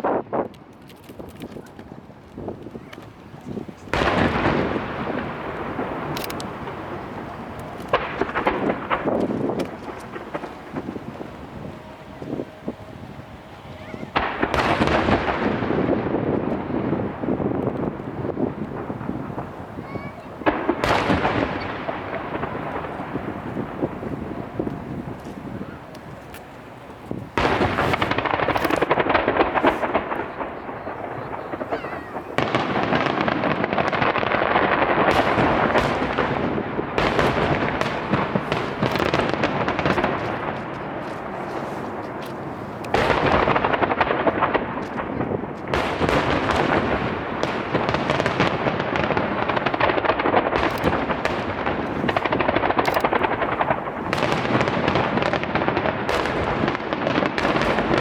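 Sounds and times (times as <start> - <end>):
fireworks booms and crackles: 0.0 - 58.0.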